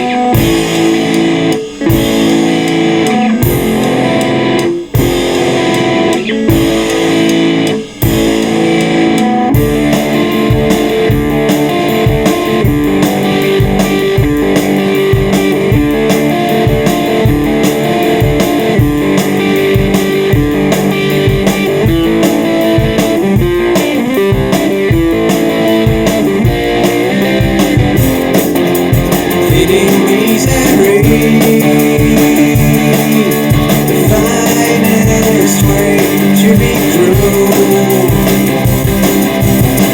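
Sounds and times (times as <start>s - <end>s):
electric guitar playing: 0.0s - 39.9s
steady drum beat: 0.0s - 39.9s.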